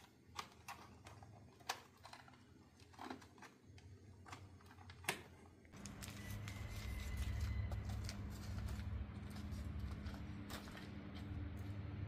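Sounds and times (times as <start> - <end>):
aluminium foil crinkling: 0.0 - 5.2, 5.8 - 11.8.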